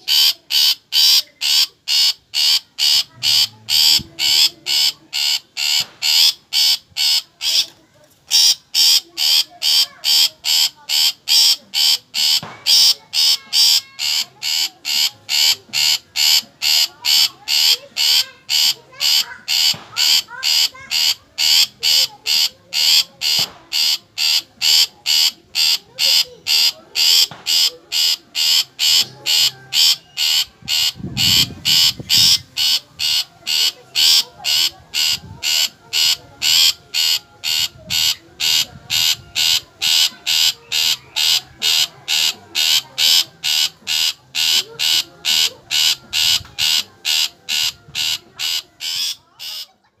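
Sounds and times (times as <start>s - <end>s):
bird calling scratchy note: 0.1s - 7.7s, 8.3s - 49.6s.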